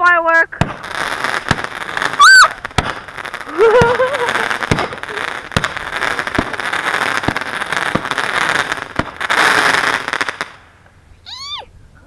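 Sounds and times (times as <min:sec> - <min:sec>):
fireworks crackling: 0:00.5 - 0:11.5
firework pops: 0:00.6 - 0:10.6.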